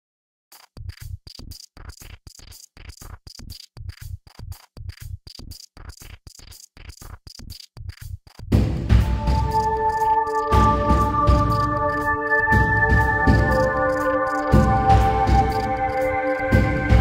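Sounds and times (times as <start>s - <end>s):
electronic music pulses: 0.6s - 17.0s.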